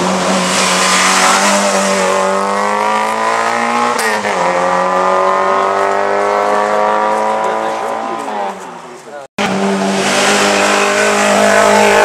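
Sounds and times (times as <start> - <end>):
car engine revving high: 0.0 - 8.2, 9.4 - 12.0.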